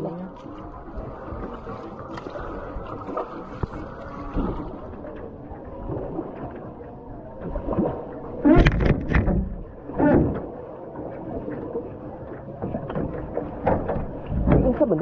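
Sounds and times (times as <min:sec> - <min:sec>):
paddle strokes splashing water: 0:00.0 - 0:15.0.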